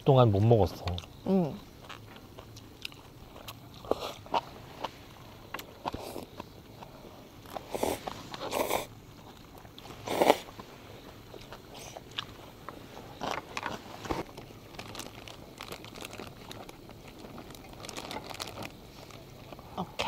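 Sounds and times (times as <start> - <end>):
person chewing: 1.8 - 19.6.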